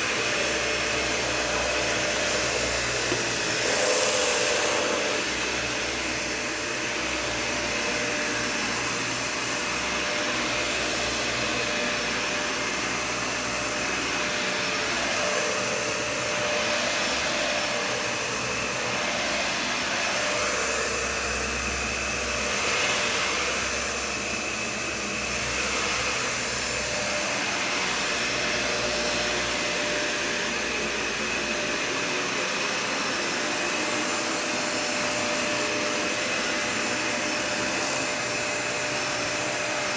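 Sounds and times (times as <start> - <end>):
upright vacuum running: 0.0 - 39.9.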